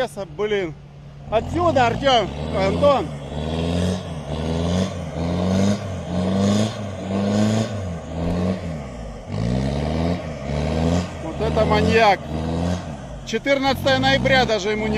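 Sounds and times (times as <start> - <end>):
engine revving hard: 1.2 - 14.9.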